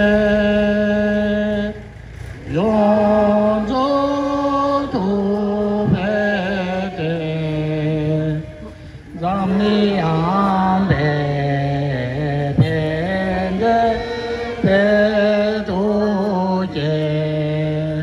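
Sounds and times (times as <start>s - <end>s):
voices chanting slowly: 0.0s - 18.0s.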